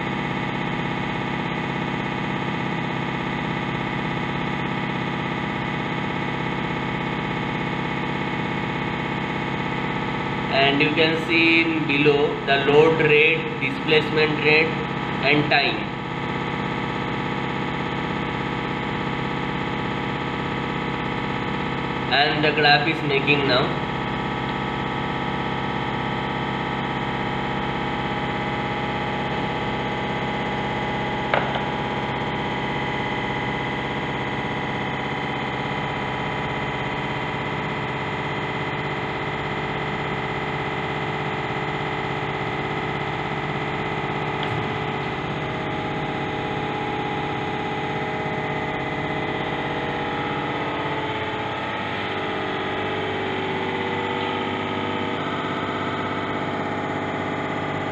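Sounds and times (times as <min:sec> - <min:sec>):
hydraulic pump whining: 0:00.1 - 0:57.9.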